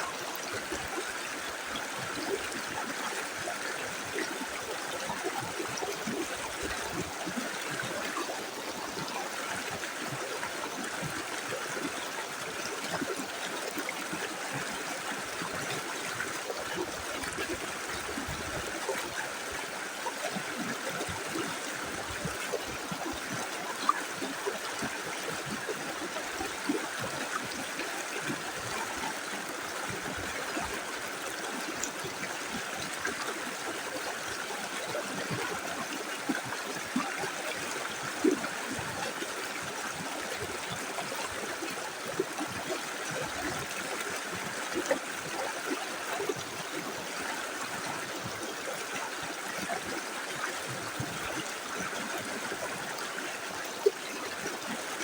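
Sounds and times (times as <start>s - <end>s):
river running over stones: 0.0s - 55.0s.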